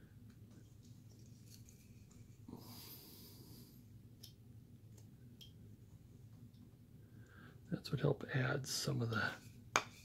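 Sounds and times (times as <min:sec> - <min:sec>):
low room hum: 0:00.0 - 0:10.0
soft hiss: 0:00.0 - 0:10.0.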